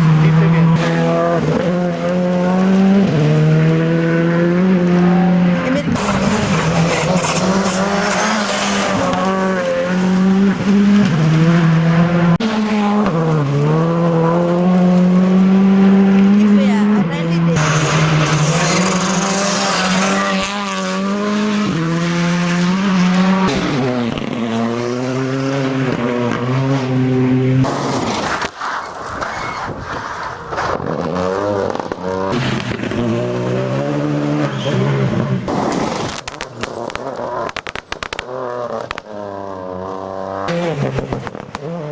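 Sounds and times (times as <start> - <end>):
gravel and tyre noise: 0.0 - 41.9
rally car engine at high revs: 0.0 - 41.9.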